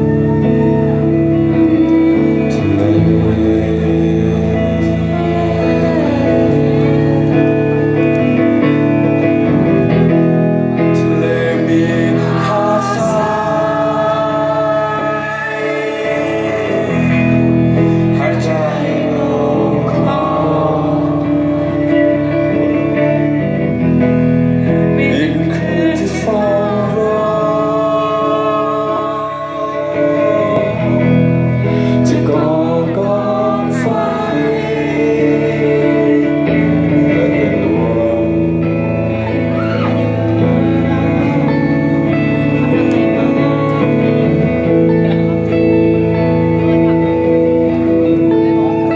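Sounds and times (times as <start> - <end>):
man singing: 0.0 - 24.0, 24.6 - 48.9
live rock band: 0.0 - 48.9.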